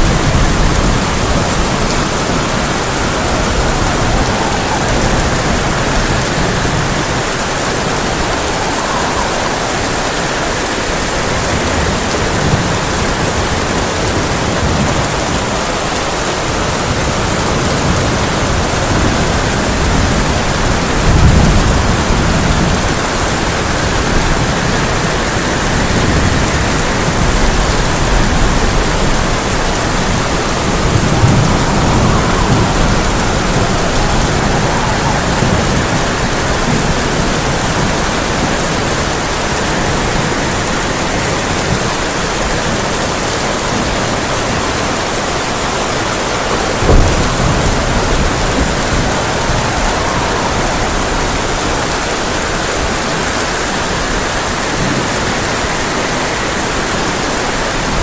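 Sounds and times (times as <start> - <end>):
heavy rain on a tin roof: 0.0 - 58.0
thunder rumbles: 0.0 - 58.0.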